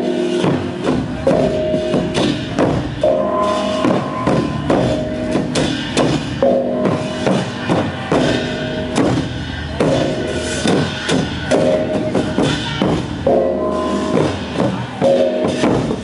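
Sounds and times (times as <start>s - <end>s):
gong strokes ringing: 0.0s - 15.8s
barrel drums beaten with sticks: 0.0s - 16.0s
hand cymbals clashing: 0.0s - 16.0s.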